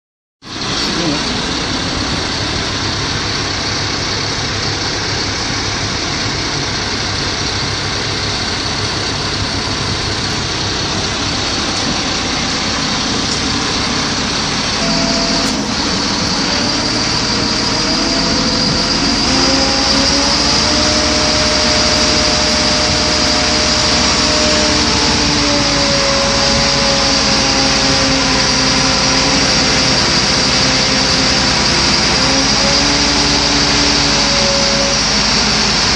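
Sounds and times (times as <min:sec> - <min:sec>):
crane diesel engine running: 0:00.4 - 0:35.9
hydraulic whine: 0:00.4 - 0:35.9.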